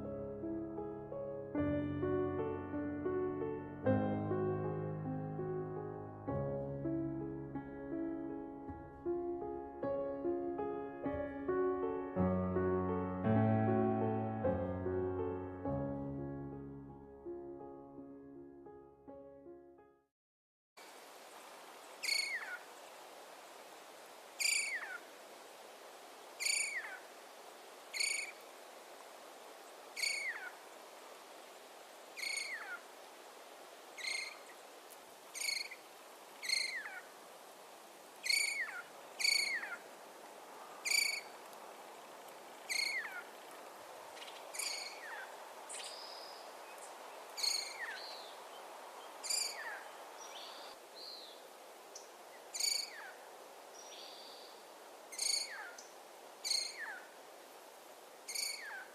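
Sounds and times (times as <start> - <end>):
faint steady hiss: 0.0 - 17.8, 20.8 - 58.9.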